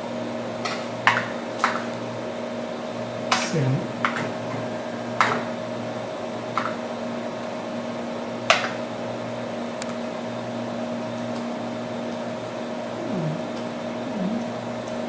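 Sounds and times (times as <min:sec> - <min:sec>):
computer fans and disk drive humming: 0:00.0 - 0:15.0.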